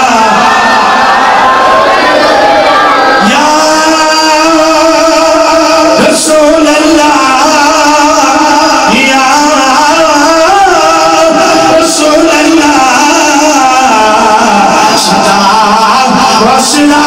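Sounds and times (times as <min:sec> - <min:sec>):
man chanting into a microphone: 0:00.0 - 0:00.8, 0:03.2 - 0:17.0.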